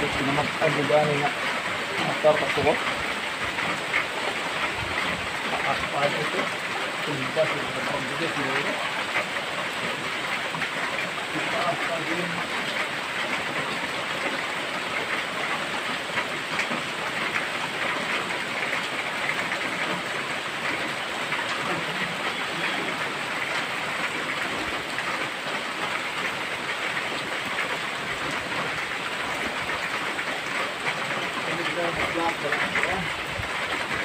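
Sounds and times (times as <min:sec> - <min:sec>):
water rushing and pattering: 0:00.0 - 0:34.0.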